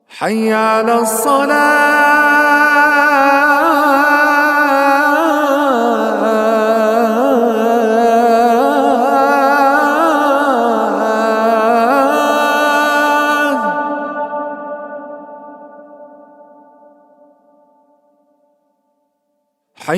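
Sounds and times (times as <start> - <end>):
man singing call to prayer: 0.0 - 16.8
voice echo: 0.0 - 19.9.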